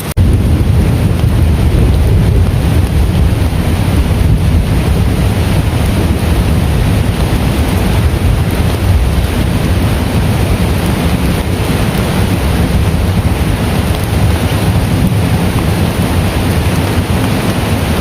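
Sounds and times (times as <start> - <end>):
heavy rain: 0.0 - 18.0
wind buffeting microphone: 0.0 - 18.0.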